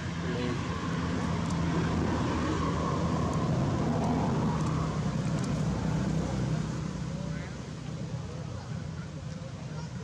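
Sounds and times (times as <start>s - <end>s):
low mechanical rumble: 0.0s - 10.0s.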